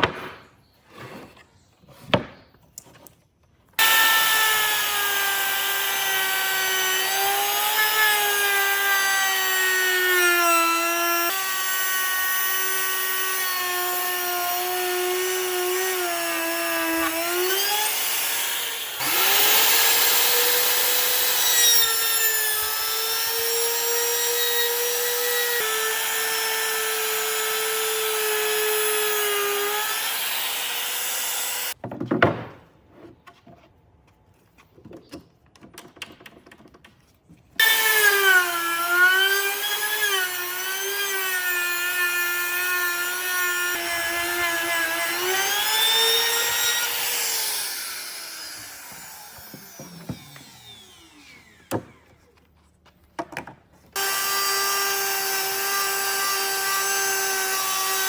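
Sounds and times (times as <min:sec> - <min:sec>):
harsh wood cutting noise: 0:03.8 - 0:31.8, 0:37.6 - 0:52.8, 0:53.9 - 0:58.0
power tool motor running: 0:03.8 - 0:31.8, 0:37.6 - 0:52.2, 0:54.0 - 0:58.0.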